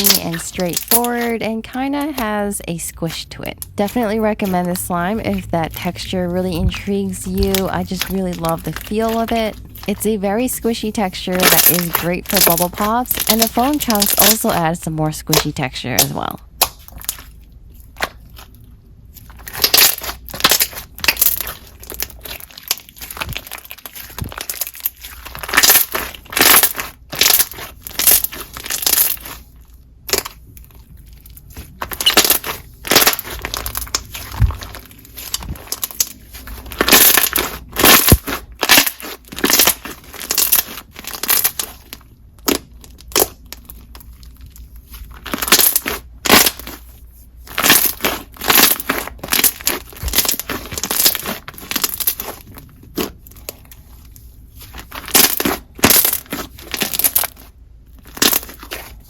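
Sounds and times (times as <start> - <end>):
slime squishing and popping: 0.0 - 2.4, 3.1 - 10.1, 11.0 - 14.5, 15.4 - 46.9, 47.5 - 53.8, 54.6 - 59.0.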